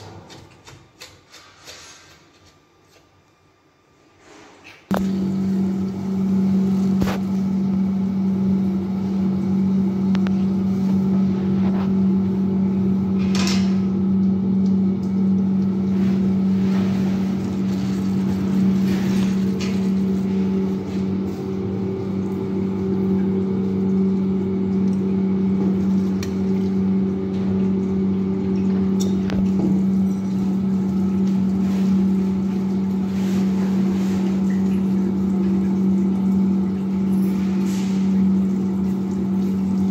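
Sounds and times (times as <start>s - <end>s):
water pump humming: 0.0s - 39.9s.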